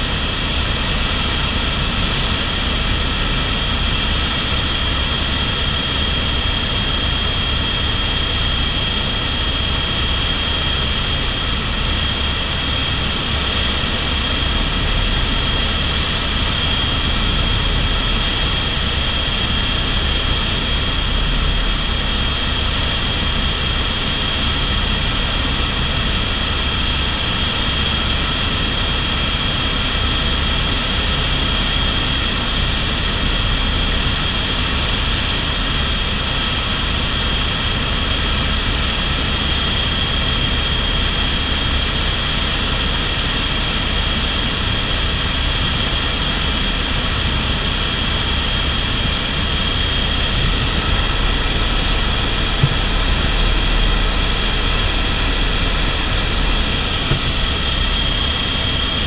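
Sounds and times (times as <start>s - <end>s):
helicopter rotor rumble: 0.0s - 59.0s
helicopter turbine whine: 0.0s - 59.0s.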